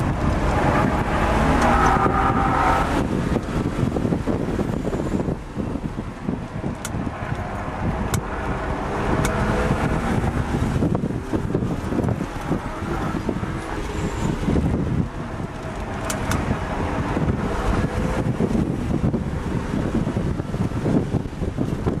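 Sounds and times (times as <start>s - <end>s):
car engine revving: 0.0s - 22.0s
wind and road noise: 0.0s - 22.0s.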